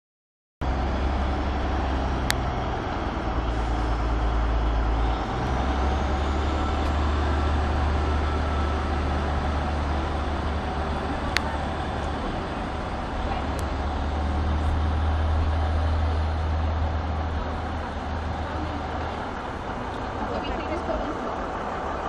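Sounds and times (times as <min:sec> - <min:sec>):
diesel train engine droning: 0:00.6 - 0:22.0.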